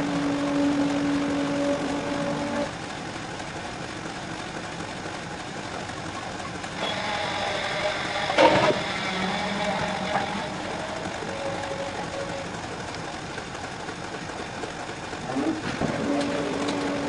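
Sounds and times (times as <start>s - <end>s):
milking machinery running: 0.0s - 17.0s.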